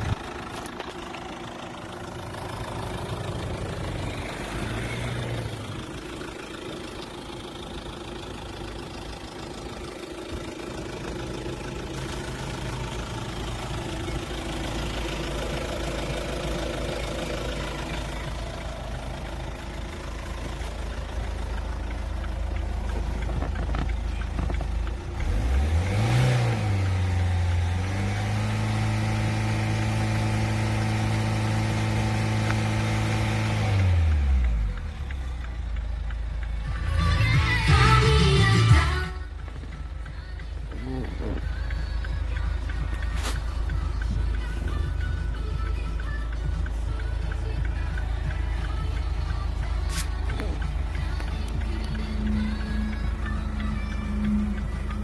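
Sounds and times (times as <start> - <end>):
diesel engine idling and revving: 0.0 - 55.0.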